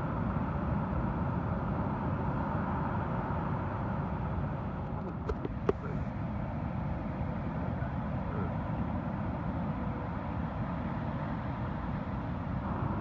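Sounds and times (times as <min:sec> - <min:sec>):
ocean surf rumbling: 0:00.0 - 0:13.0.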